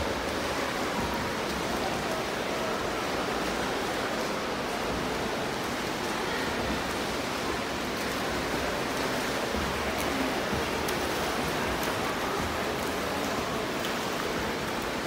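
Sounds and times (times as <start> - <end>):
water splashing from swimming strokes: 0.0 - 15.0.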